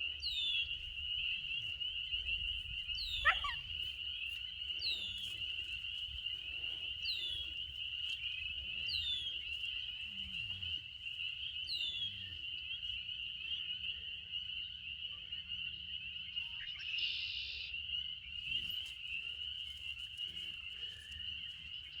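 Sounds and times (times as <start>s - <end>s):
chorus of small calling animals: 0.0s - 17.7s.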